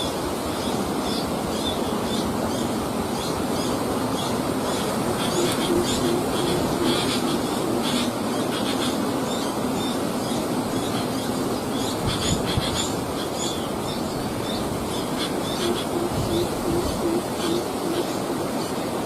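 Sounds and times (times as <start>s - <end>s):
low repeated bird calls: 0.0s - 19.0s
steady rushing noise: 0.0s - 19.0s.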